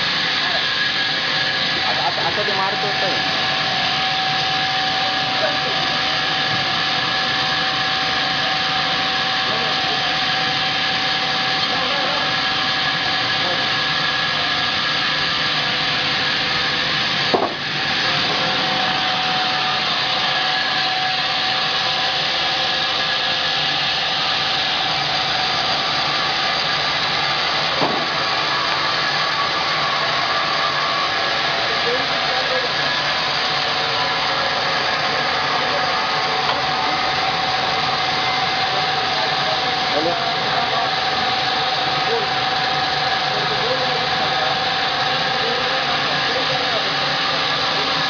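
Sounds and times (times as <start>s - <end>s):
saw cutting through log: 0.0s - 48.0s.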